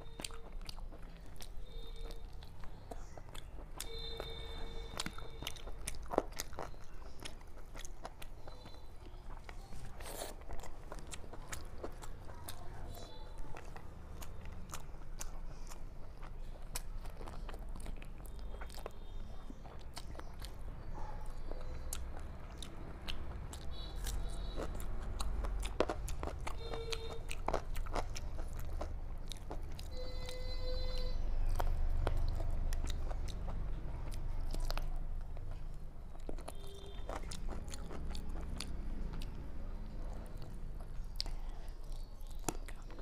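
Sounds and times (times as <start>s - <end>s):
chewing and lip smacks: 0.0s - 43.0s.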